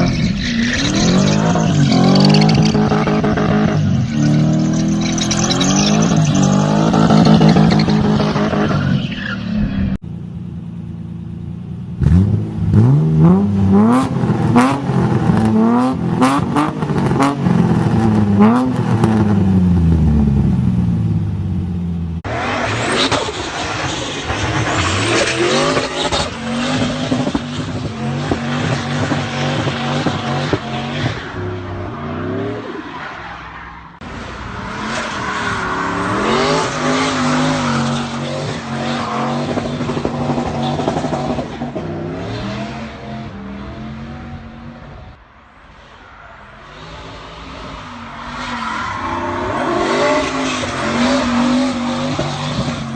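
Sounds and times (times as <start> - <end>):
road noise: 0.0 - 52.9.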